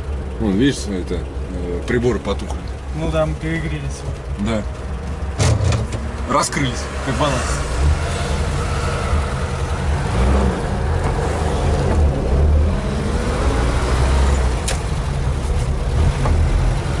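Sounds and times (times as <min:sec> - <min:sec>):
car engine rumble from inside cabin: 0:00.0 - 0:17.0
road noise: 0:00.0 - 0:17.0.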